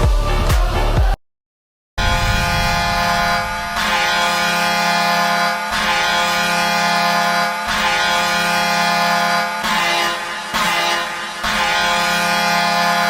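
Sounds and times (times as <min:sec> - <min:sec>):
goal horn blasts: 0:02.0 - 0:13.0.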